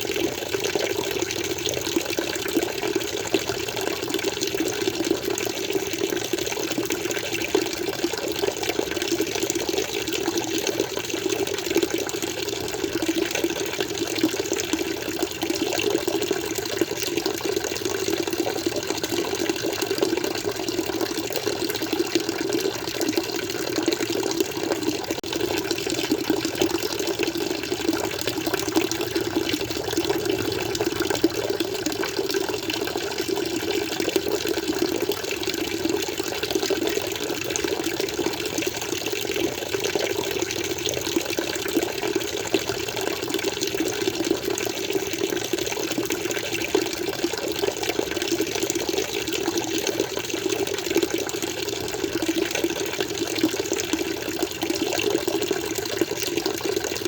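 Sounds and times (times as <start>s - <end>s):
aquarium water flowing: 0.0s - 57.0s.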